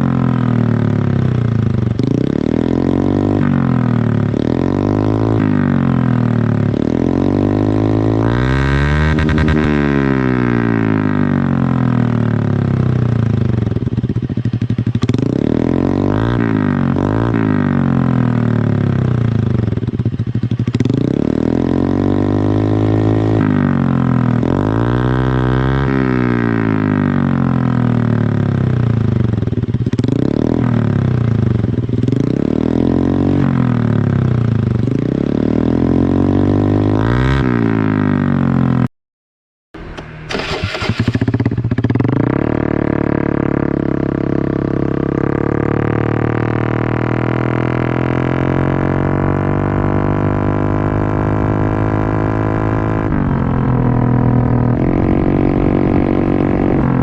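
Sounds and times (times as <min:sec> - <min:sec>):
motorcycle engine revving: 0:00.0 - 0:38.9, 0:39.8 - 0:57.0.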